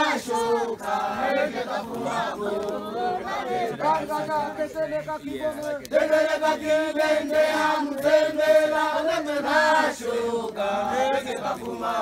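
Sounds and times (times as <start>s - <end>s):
group singing a chant: 0.0s - 12.0s.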